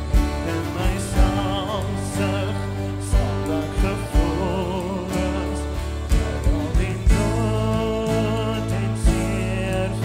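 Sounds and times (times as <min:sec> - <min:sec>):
drum beats thumping: 0:00.0 - 0:09.7
live worship band playing: 0:00.0 - 0:10.0
man singing: 0:00.0 - 0:10.0.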